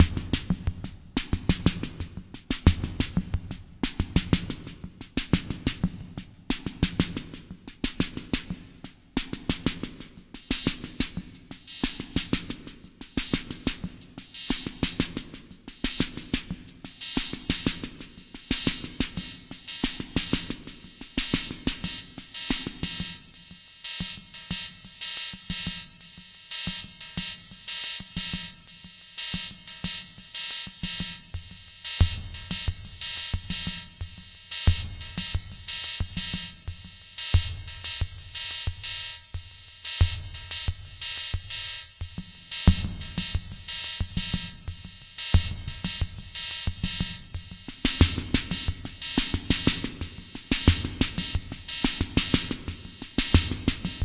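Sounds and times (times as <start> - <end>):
drum machine beat: 0.0 - 54.0.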